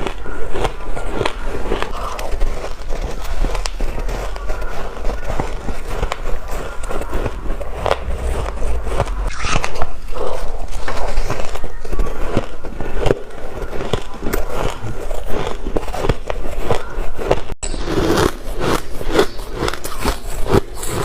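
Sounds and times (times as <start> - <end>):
chewing crunchy ice: 0.0 - 21.0.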